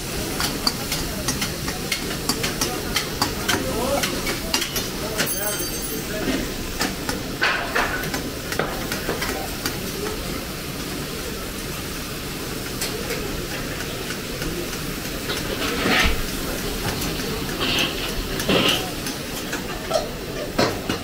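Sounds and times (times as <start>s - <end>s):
meat sizzling in a wok: 0.0s - 5.8s, 6.4s - 21.0s.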